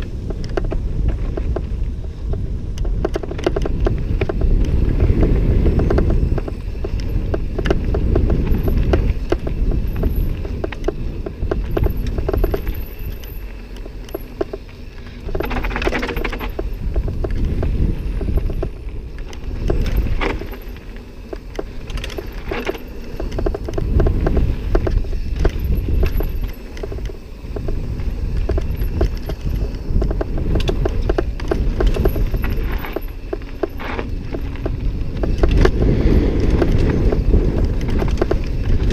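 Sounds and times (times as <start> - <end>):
bike chain and frame rattling: 0.0 - 38.9
tyres crunching over gravel: 0.0 - 38.9
wind buffeting microphone: 0.0 - 38.9.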